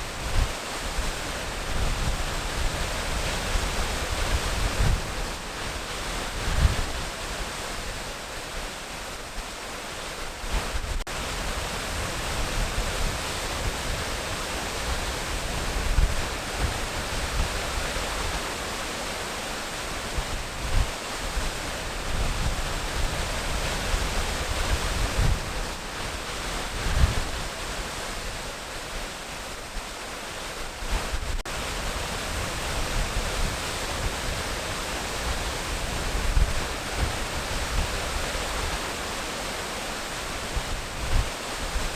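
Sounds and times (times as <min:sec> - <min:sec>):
low rumbles of pounding water: 0:00.0 - 0:41.9
waterfall rushing: 0:00.0 - 0:41.9.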